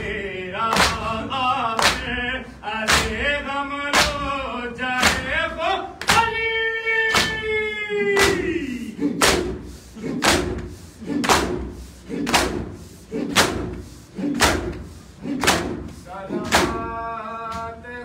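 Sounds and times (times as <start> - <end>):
hands slapping chests in unison: 0.6 - 17.7.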